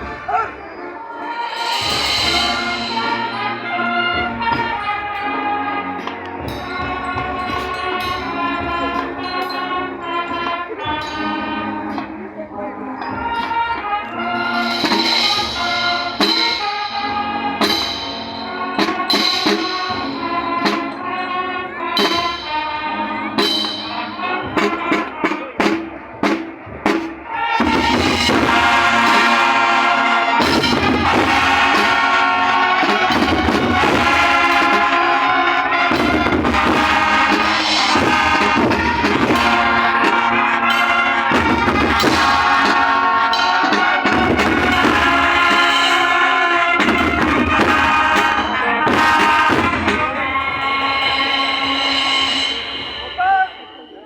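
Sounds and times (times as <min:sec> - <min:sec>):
marching band playing: 0:00.0 - 0:54.0
drum strikes: 0:01.3 - 0:09.8, 0:13.1 - 0:21.1, 0:23.3 - 0:54.0.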